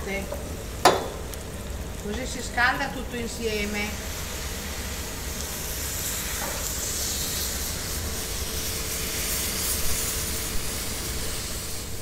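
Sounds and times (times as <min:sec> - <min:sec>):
milk sizzling in hot pan: 0:00.0 - 0:12.0.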